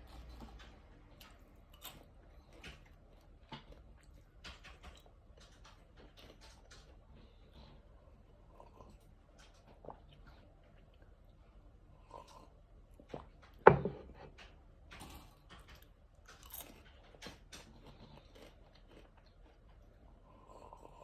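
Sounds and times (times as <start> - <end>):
person chewing popcorn: 0.0 - 21.0.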